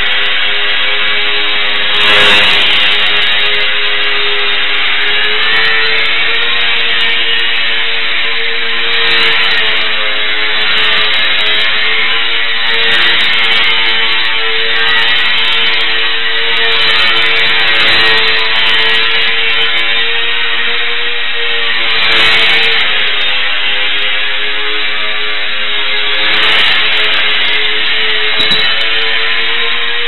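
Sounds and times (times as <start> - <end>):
model plane motor buzzing whine: 0.0 - 30.0.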